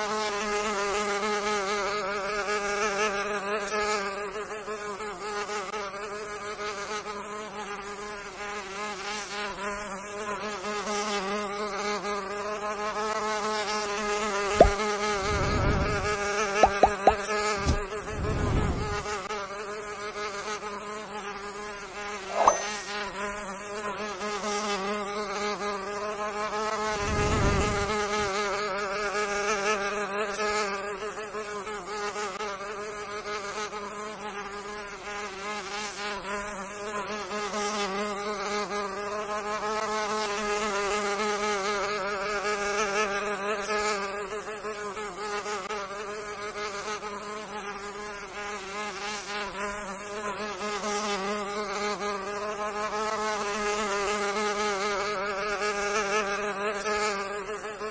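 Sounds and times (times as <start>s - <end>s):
mosquito buzzing in flight: 0.0s - 57.9s.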